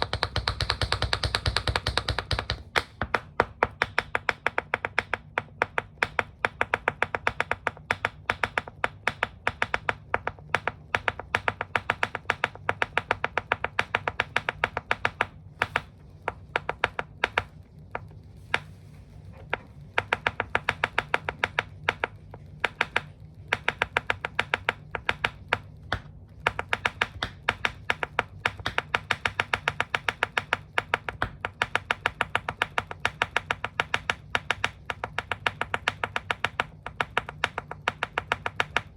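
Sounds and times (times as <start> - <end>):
low steady hum: 0.0 - 38.9
tap shoes clicking on hard floor: 0.0 - 38.9.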